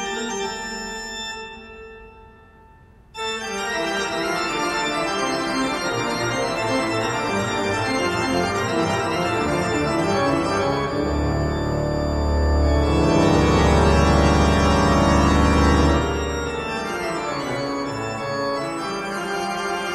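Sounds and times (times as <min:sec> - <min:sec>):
organ music: 0:00.0 - 0:19.9.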